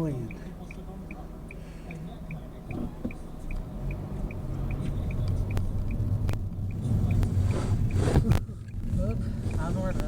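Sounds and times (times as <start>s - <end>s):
car driving rumble: 0.0s - 10.0s
faint high ticking: 0.0s - 10.0s.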